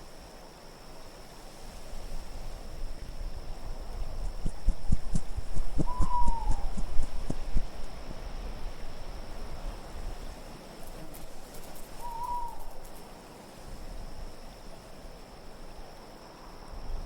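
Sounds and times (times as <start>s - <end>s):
steady wind: 0.0s - 17.0s.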